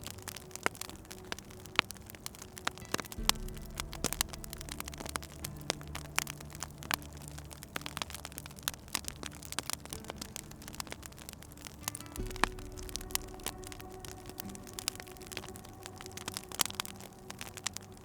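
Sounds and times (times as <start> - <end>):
low steady hum: 0.0 - 18.0
wood fire crackling and popping: 0.0 - 18.0.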